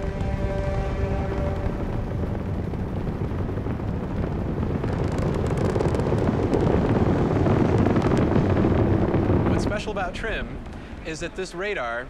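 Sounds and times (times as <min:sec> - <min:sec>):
rocket engine crackling: 0:00.0 - 0:11.8
rocket engines rumbling: 0:00.0 - 0:12.0.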